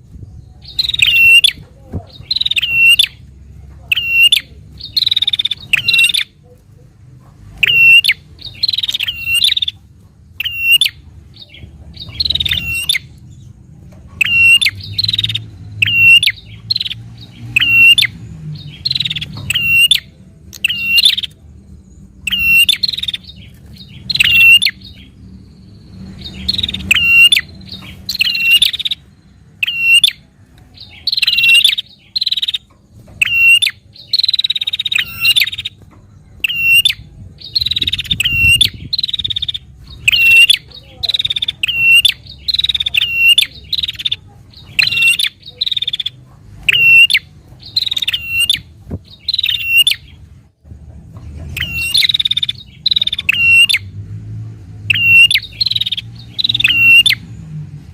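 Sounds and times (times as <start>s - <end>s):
bird sharp chattering calls: 0.6s - 6.6s, 7.5s - 21.4s, 22.0s - 50.4s, 51.4s - 53.9s, 54.8s - 57.3s.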